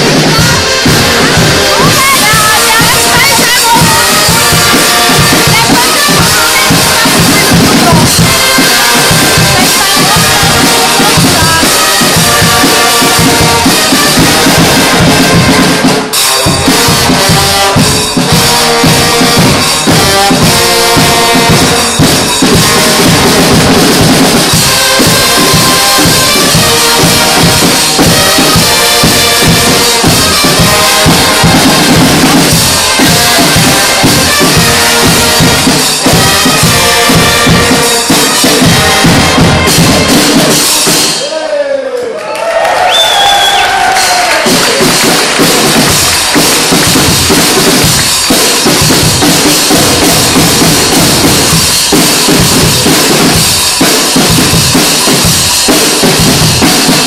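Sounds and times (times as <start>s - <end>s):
bass drum and snare beat: 0.0s - 41.3s, 42.7s - 57.0s
brass band horn chords: 0.0s - 41.4s, 43.1s - 57.0s.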